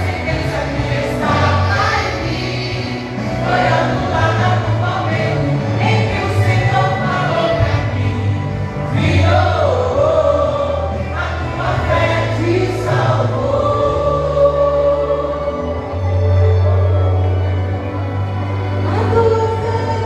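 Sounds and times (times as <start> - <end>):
gospel group singing: 0.0 - 20.0.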